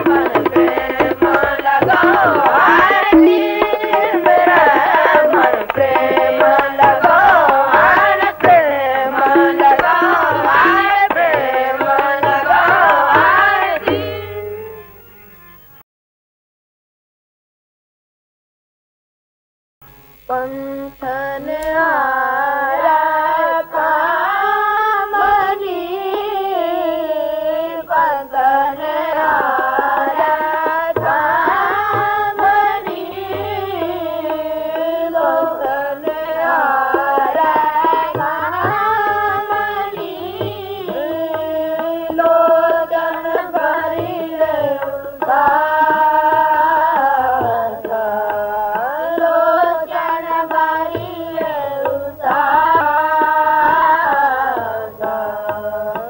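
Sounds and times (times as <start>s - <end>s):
boys singing a hymn: 0.0s - 14.6s, 20.3s - 56.0s
tabla strokes: 0.0s - 15.6s, 19.8s - 56.0s
harmonium: 0.0s - 15.8s, 19.8s - 56.0s.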